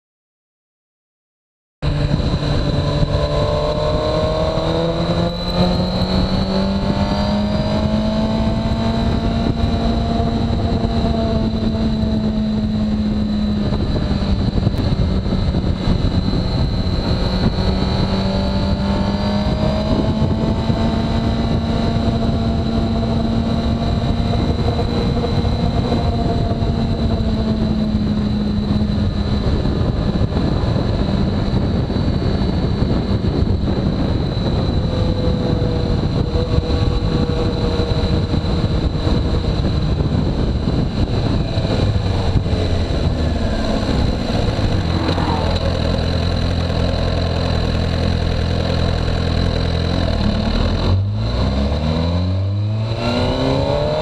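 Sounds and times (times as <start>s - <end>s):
motorcycle engine running: 1.8s - 54.0s.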